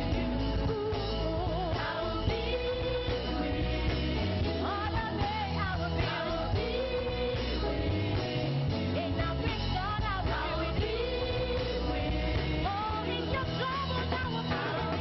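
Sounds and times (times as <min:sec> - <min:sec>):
gospel band playing: 0:00.0 - 0:15.0
singers singing: 0:00.0 - 0:15.0.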